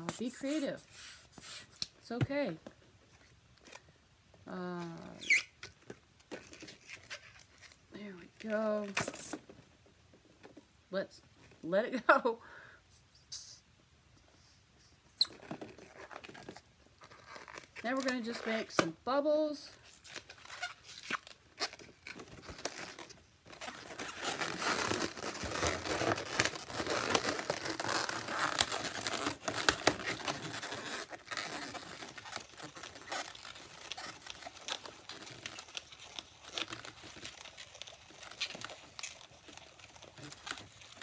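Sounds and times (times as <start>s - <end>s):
balloons rubbing and crinkling: 0.0s - 3.8s, 4.5s - 9.5s, 15.2s - 18.8s, 19.4s - 41.0s.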